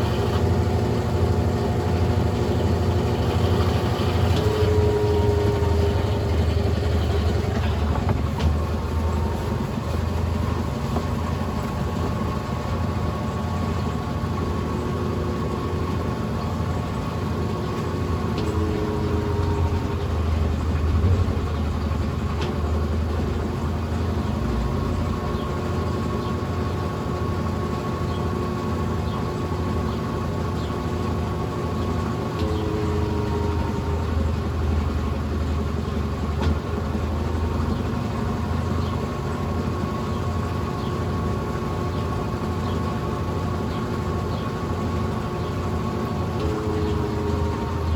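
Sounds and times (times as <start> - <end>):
washing machine motor hum: 0.0 - 47.9.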